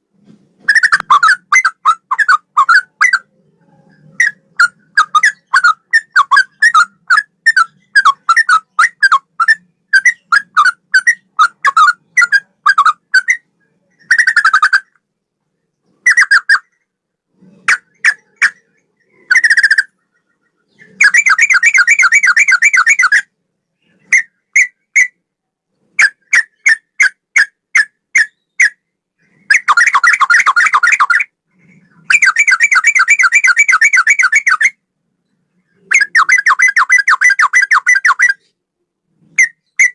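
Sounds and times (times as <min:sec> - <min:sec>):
bird singing whistled notes: 0:00.6 - 0:15.0, 0:16.0 - 0:16.8, 0:17.7 - 0:25.2, 0:26.0 - 0:34.8, 0:35.7 - 0:38.6, 0:39.3 - 0:39.9
bird trills: 0:00.6 - 0:15.0, 0:15.9 - 0:25.2, 0:26.0 - 0:38.6, 0:39.2 - 0:39.9.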